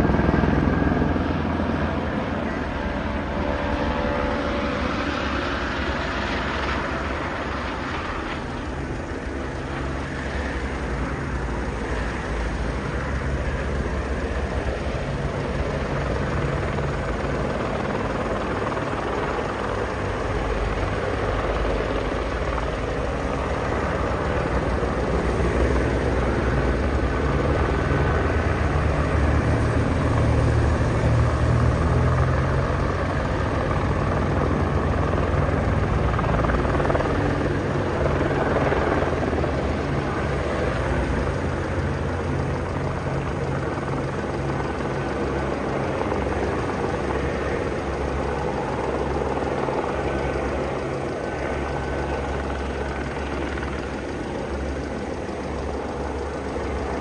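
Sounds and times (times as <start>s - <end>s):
helicopter rotor and engine drone: 0.0s - 57.0s.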